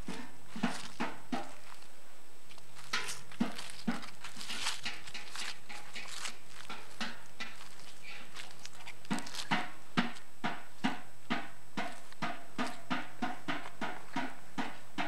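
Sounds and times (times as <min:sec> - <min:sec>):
faint low hum: 0:00.0 - 0:15.0
footsteps on grass and dry ground: 0:00.0 - 0:15.0.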